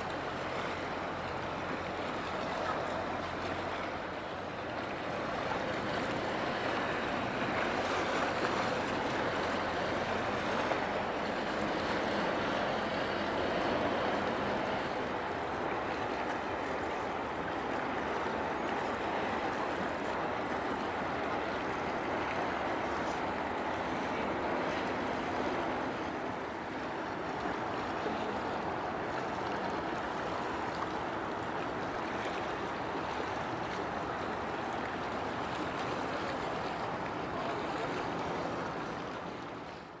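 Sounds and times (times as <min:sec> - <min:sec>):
water washing along shore: 0:00.0 - 0:40.0.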